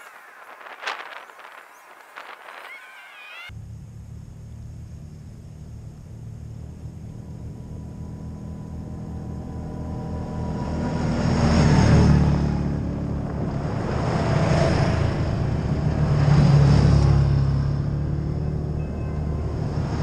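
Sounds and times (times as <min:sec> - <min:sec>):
vehicles driving past on gravel: 0:03.5 - 0:20.0.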